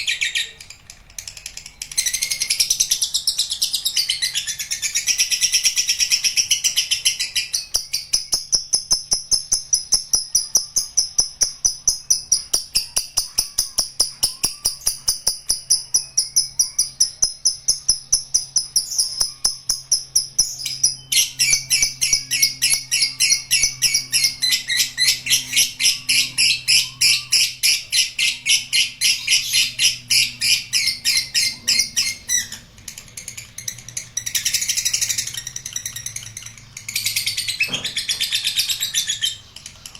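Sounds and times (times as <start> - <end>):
lovebird chattering song: 0.0 - 39.9.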